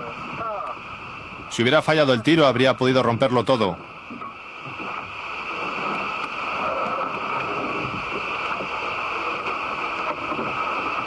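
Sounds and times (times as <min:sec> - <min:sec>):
wind and sea rushing: 0:00.0 - 0:11.0.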